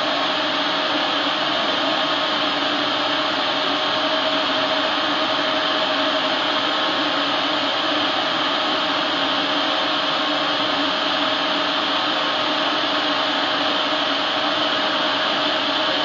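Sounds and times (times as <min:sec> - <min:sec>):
laser cutter airy rush and hum: 0:00.0 - 0:16.0.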